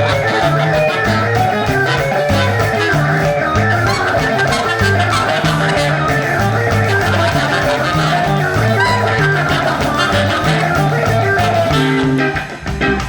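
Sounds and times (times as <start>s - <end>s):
drums: 0.0s - 13.0s
electric bass line: 0.0s - 13.0s
guitar: 0.0s - 13.0s.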